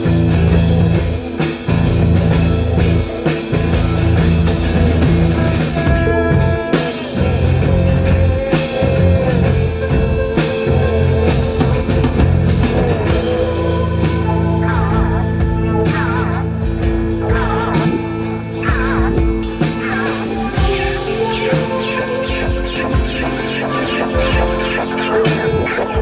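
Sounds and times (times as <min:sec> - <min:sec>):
live rock band playing: 0:00.0 - 0:26.0
wavering high lead guitar: 0:00.0 - 0:26.0.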